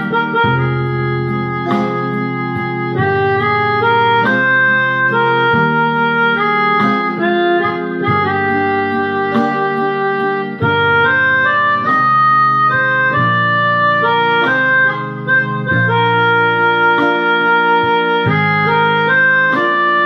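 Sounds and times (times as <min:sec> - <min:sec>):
electronic keyboard melody and chords: 0:00.0 - 0:20.0.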